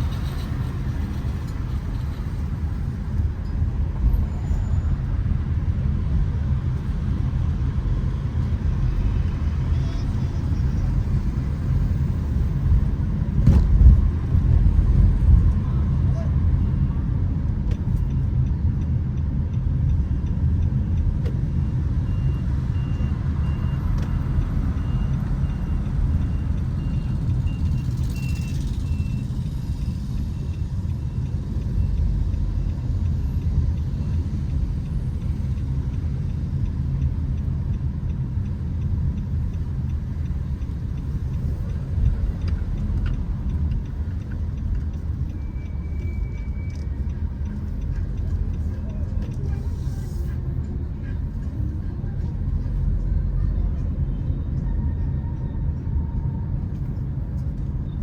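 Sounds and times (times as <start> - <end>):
rumble of passing vehicles: 0.0 - 58.0.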